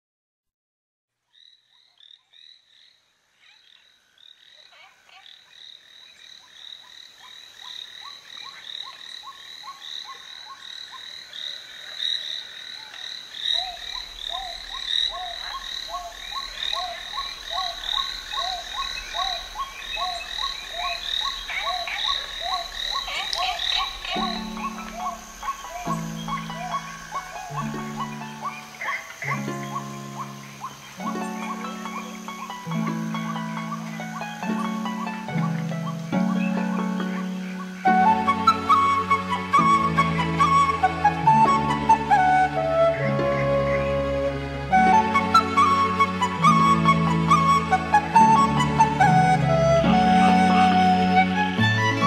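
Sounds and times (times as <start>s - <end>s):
frogs croaking: 1.2s - 50.9s.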